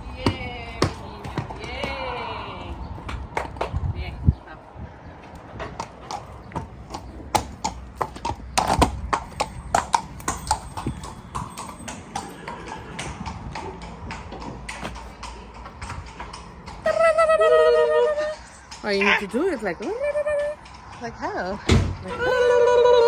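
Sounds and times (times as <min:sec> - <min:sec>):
horse hooves clip-clopping: 0:00.0 - 0:03.8, 0:05.2 - 0:23.0.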